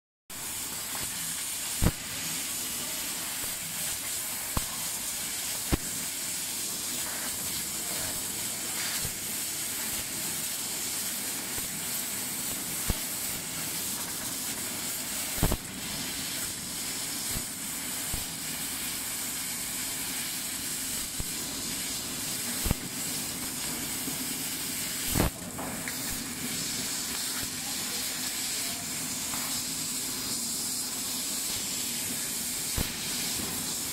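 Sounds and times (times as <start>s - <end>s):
laser cutter gas hiss: 0.3s - 33.9s.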